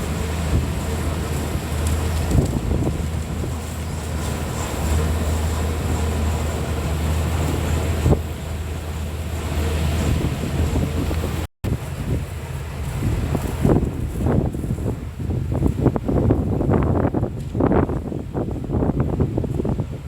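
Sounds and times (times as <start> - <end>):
combine harvester engine hum: 0.0 - 20.0
wind buffeting microphone: 0.0 - 20.0.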